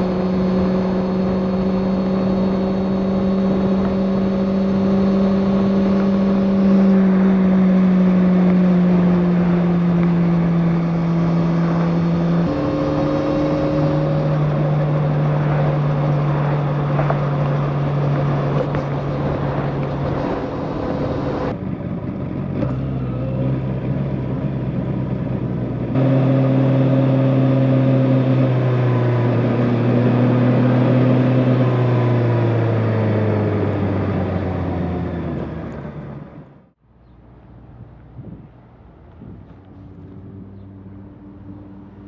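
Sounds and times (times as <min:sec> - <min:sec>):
motorcycle engine running: 0:00.0 - 0:36.7
road and wind noise: 0:00.0 - 0:42.0.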